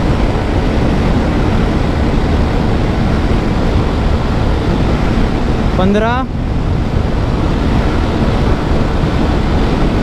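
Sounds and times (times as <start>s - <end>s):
motorcycle engine at full throttle: 0.0s - 10.0s
wind rushing over microphone: 0.0s - 10.0s.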